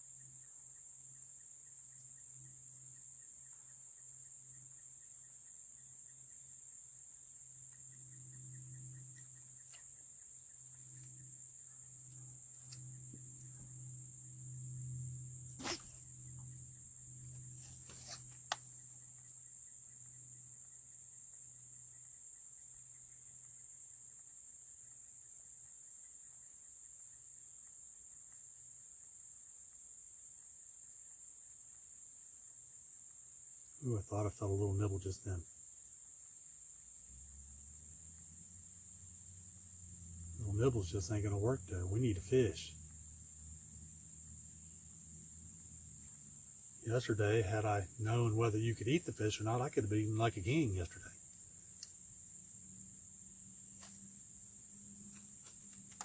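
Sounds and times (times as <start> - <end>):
insects chorus: 0.0 - 56.0.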